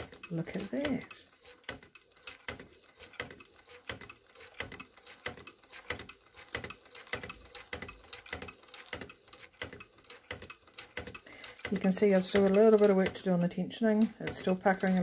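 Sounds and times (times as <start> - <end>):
toy sewing machine clicking: 0.0 - 15.0.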